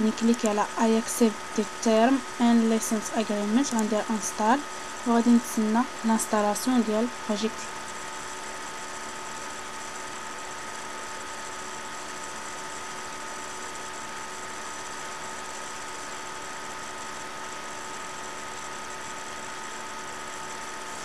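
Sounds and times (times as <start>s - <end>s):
electrical hum and hiss: 0.0s - 21.0s
faint constant whines: 0.0s - 21.0s.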